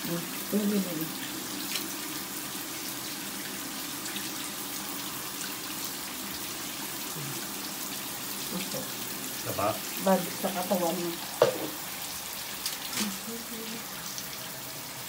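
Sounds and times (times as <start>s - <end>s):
shower water running onto tiles: 0.0s - 15.0s.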